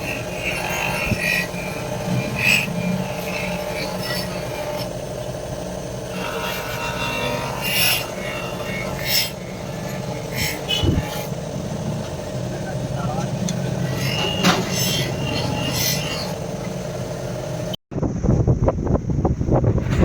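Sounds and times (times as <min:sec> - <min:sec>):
abrasive tool scraping metal blade: 0:00.0 - 0:17.1
steady low hum: 0:00.0 - 0:20.0.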